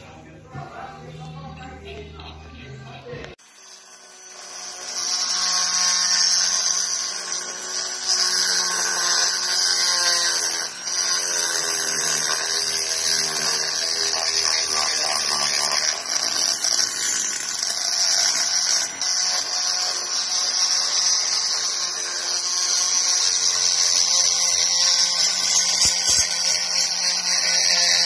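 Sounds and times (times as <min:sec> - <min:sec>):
rotary tool grinding metal: 0:00.8 - 0:28.0.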